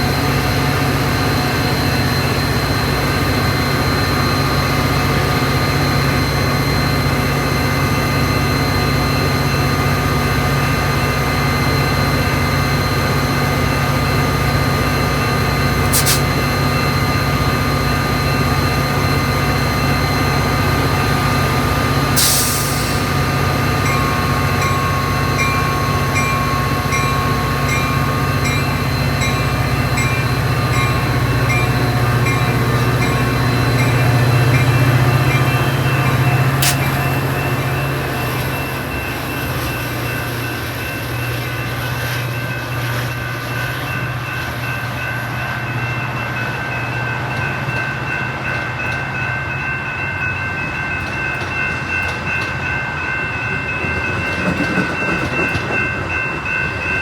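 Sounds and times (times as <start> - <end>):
diesel locomotive droning: 0.0 - 57.0.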